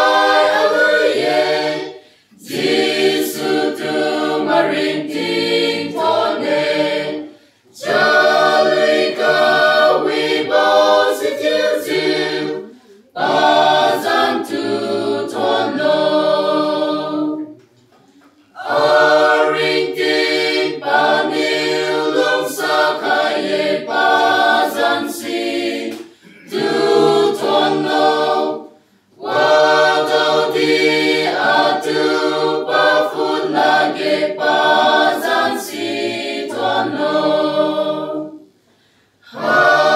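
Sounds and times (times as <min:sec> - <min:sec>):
mixed choir singing unaccompanied: 0:00.0 - 0:17.6, 0:18.5 - 0:39.9.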